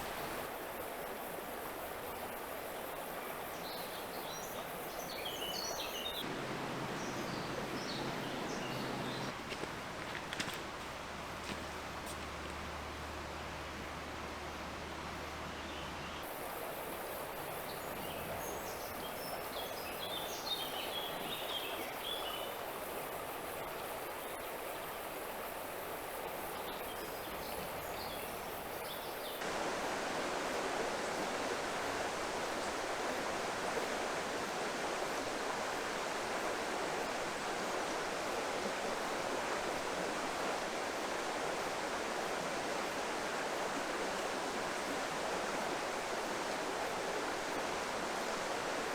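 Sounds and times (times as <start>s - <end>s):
rushing river water: 0.0s - 48.9s.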